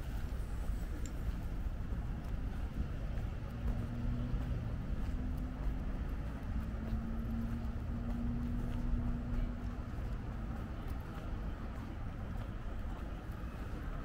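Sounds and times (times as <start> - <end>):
road traffic rumbling: 0.0 - 14.0
vehicle engine hum: 0.0 - 14.0.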